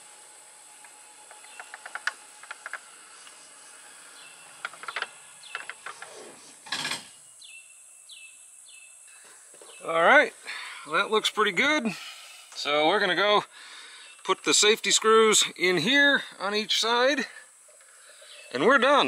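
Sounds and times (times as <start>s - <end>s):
birds chirping: 1.3s - 2.0s, 2.7s - 19.0s.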